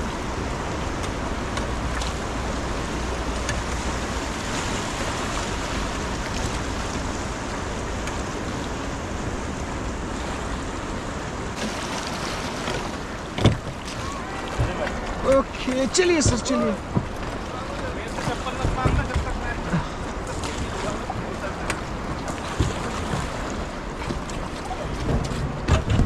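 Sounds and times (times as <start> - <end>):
river water running over rocks: 0.0 - 26.0.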